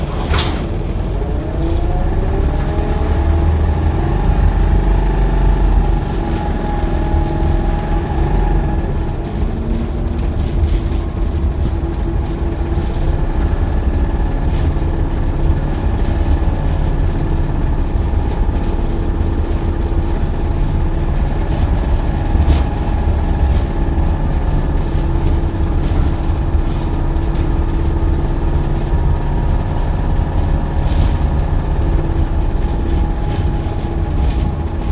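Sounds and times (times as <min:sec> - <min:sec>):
bus engine rumble: 0:00.0 - 0:34.9.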